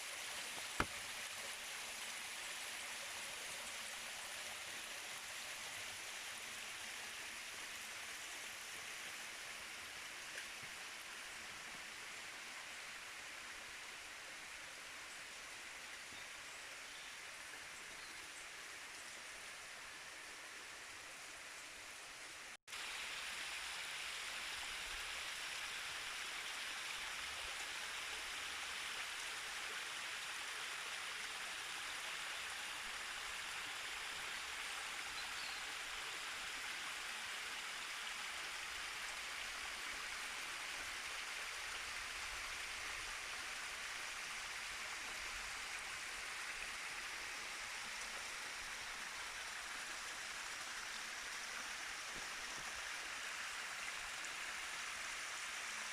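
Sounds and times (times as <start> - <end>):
mountain stream rushing: 0.0 - 16.6, 18.5 - 55.9.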